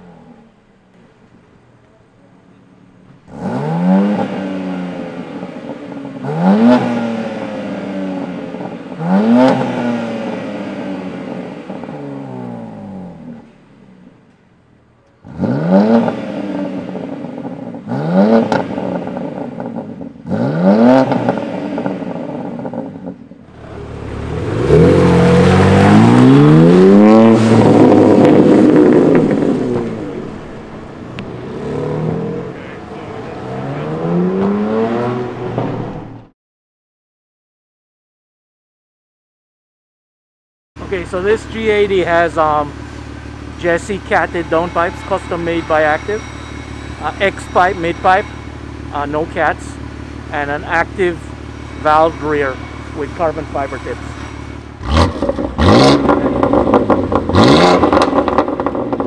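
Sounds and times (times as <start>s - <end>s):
car accelerating away: 3.2s - 13.6s, 15.2s - 36.3s, 40.8s - 59.0s
car engine revving: 3.2s - 14.2s, 15.2s - 36.3s, 40.8s - 59.0s.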